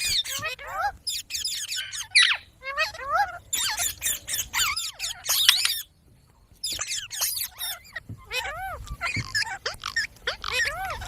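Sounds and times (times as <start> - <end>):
parrot chattering: 0.0 - 5.8, 6.6 - 11.0.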